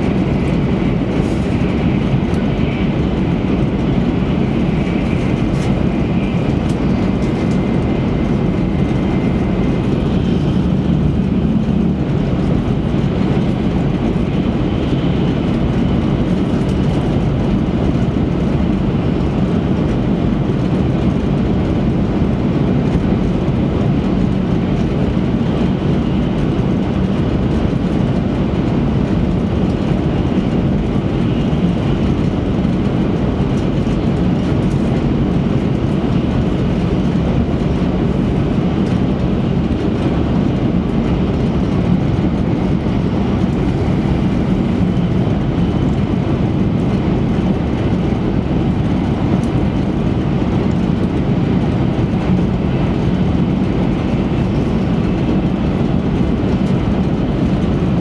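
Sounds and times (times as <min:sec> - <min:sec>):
train cabin running rumble: 0:00.0 - 0:58.0.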